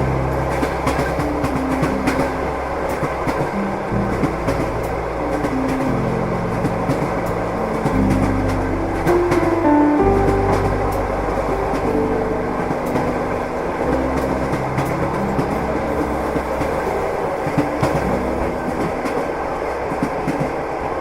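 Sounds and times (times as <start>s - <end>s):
train rumbling on rails: 0.0s - 21.0s
wheels clacking over rail joints: 0.0s - 21.0s.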